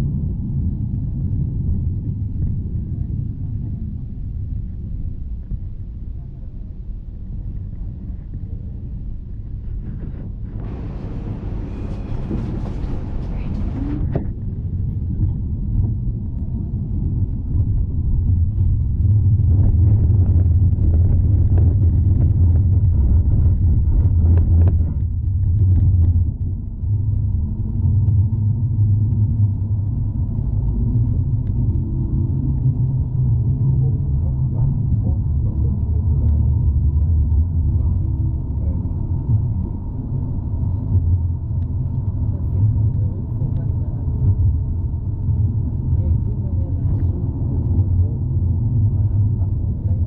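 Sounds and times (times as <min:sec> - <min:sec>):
tram rumbling on rails: 0:07.6 - 0:50.0.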